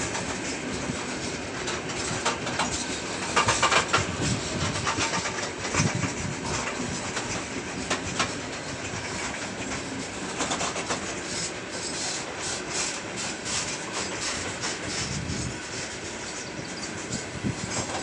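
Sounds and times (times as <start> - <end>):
freight train wheels rumbling: 0.0 - 18.0
wheels clicking over rail joints: 0.0 - 18.0.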